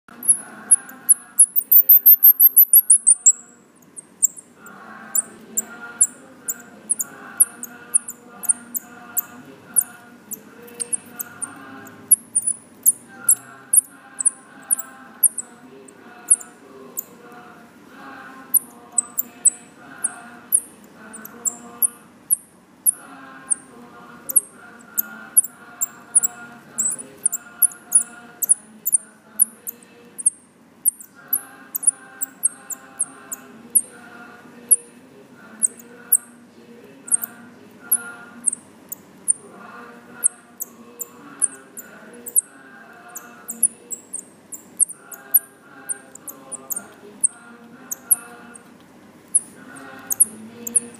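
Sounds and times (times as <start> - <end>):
baby squirrels chirping: 0.1 - 17.4, 18.5 - 34.0, 34.6 - 34.8, 35.6 - 36.3, 37.1 - 48.7, 49.3 - 50.9.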